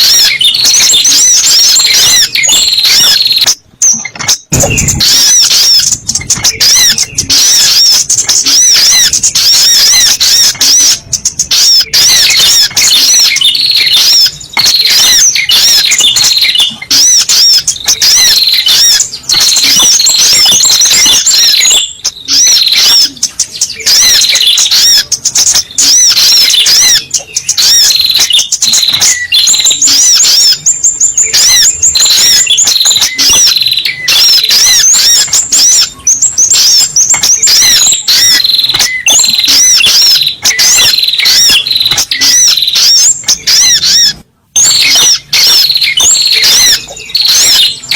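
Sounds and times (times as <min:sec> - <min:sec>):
bird chirping rapidly: 0:00.0 - 0:47.9.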